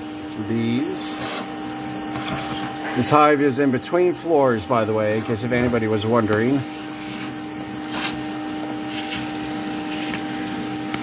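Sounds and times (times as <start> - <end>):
vacuum humming: 0.0 - 11.0.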